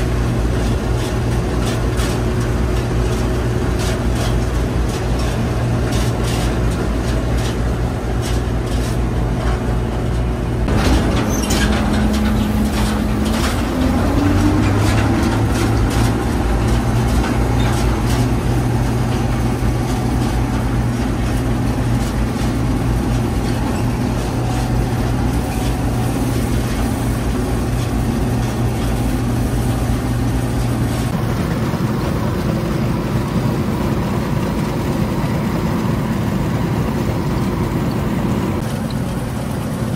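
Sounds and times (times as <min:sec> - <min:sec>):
diesel engine rattling: 0:00.0 - 0:39.9.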